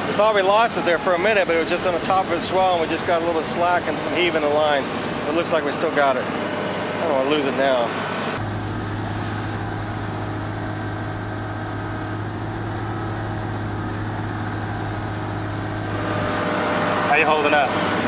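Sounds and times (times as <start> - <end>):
ship machinery drone: 0.0 - 18.0.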